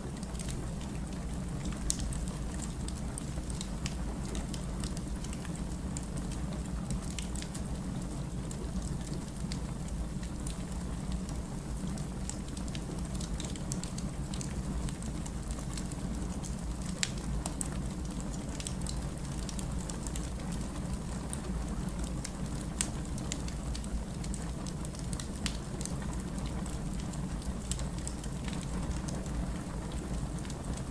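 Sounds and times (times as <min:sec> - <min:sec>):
firewood crackling and popping: 0:00.1 - 0:07.8, 0:12.0 - 0:30.9.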